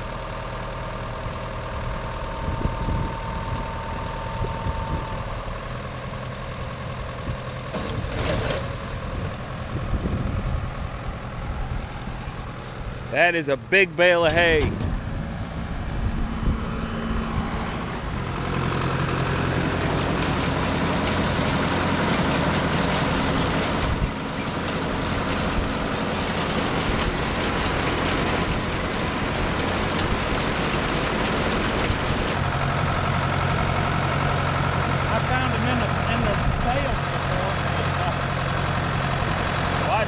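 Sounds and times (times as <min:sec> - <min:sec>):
tractor diesel engine running: 0:00.0 - 0:40.0
baler mechanical noise: 0:01.1 - 0:05.7, 0:07.7 - 0:40.0.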